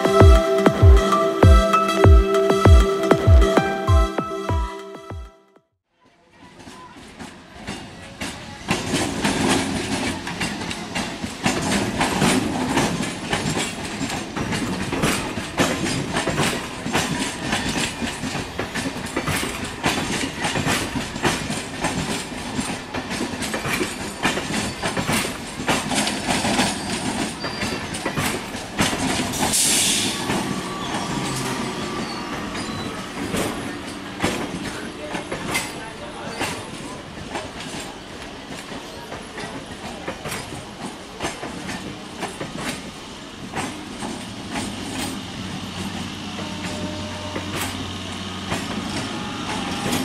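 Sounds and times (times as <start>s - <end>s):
train wheels clattering past: 6.4s - 50.0s.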